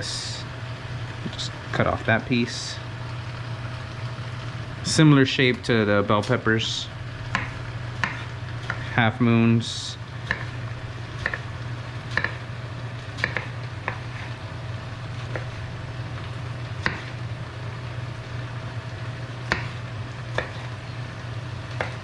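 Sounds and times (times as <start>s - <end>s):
steady low hum: 0.0s - 22.0s
vegetables sizzling in a pan: 0.0s - 22.0s.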